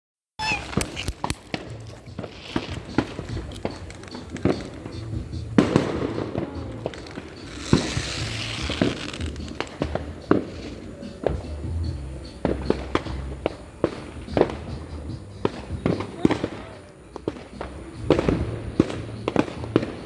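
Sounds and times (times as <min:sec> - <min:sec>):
fireworks bangs: 0:00.4 - 0:20.0
hissing crackle: 0:00.4 - 0:20.0.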